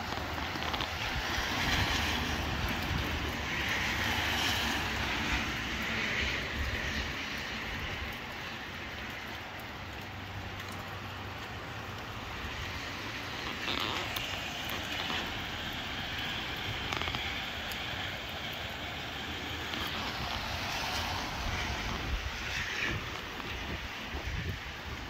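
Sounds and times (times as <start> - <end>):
wind rumble on microphone: 0.0 - 9.6, 10.3 - 25.0
gusty wind and rain: 0.0 - 25.0.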